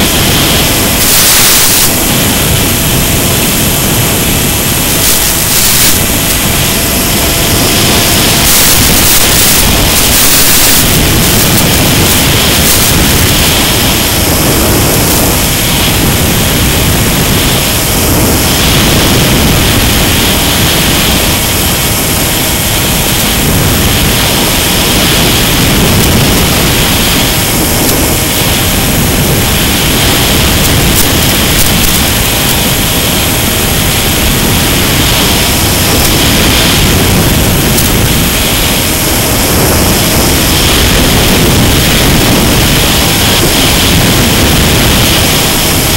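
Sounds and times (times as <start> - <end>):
electric motor and propeller: 0.0 - 45.9
wind rush: 0.0 - 45.9.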